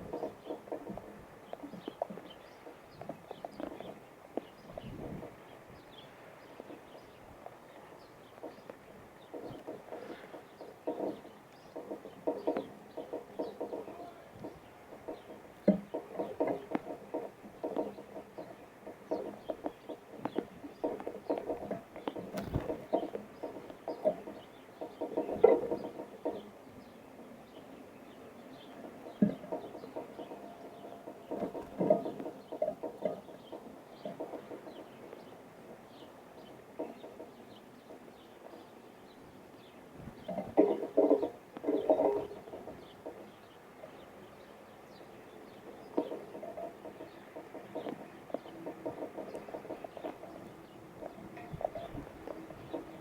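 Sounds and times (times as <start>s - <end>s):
birds calling: 0.0s - 53.0s.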